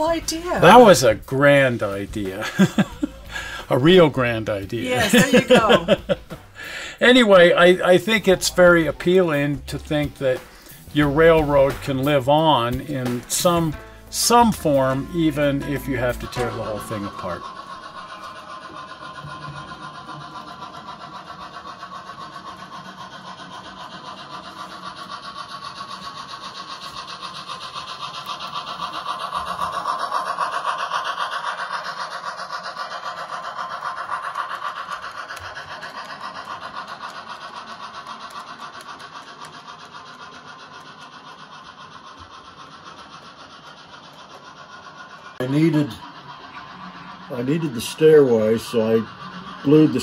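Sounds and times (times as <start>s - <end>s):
fast even ticking: 0.0s - 50.0s
model train running on track: 0.0s - 50.0s.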